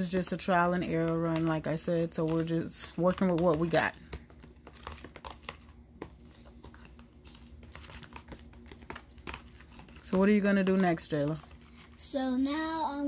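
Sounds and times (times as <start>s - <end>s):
spoon scraping plastic container: 0.4s - 12.0s.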